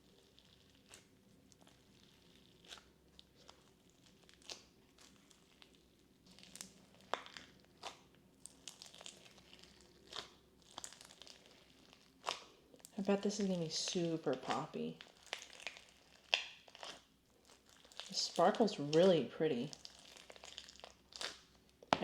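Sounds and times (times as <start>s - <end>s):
slime crackling and popping: 0.0s - 22.0s.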